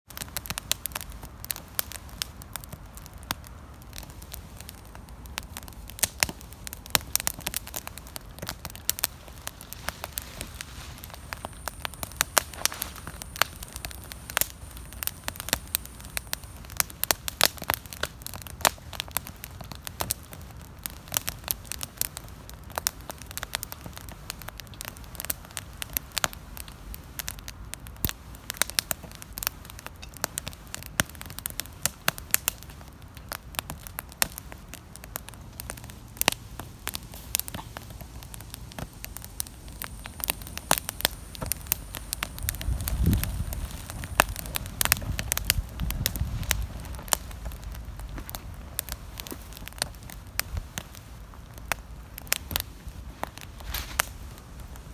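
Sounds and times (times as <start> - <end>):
campfire crackling and popping: 0.0 - 54.9
low rumble of flames: 0.1 - 54.9.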